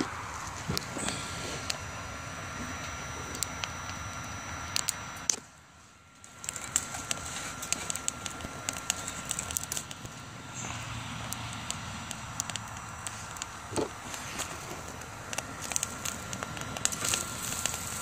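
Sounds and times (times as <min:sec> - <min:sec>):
stove fan whirring: 0:00.0 - 0:18.0
wood fire crackling and popping: 0:00.0 - 0:18.0.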